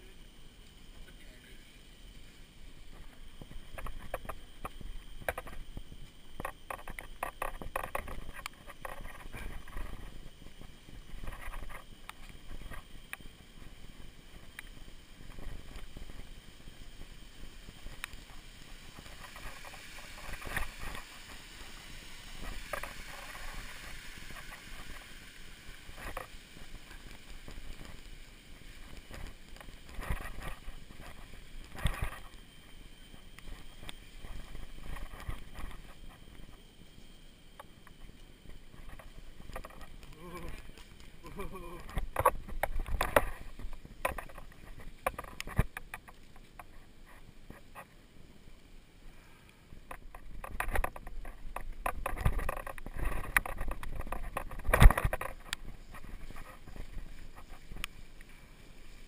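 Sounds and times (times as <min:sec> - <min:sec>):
steady hiss: 0:00.0 - 0:59.0
unicycle wheel bumping over ground: 0:02.7 - 0:36.7, 0:37.6 - 0:47.8, 0:49.9 - 0:59.0.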